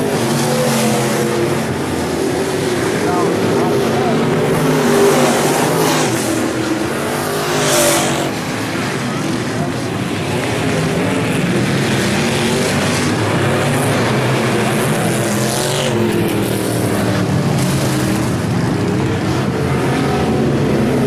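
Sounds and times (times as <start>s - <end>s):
race car engines droning: 0.0s - 21.0s.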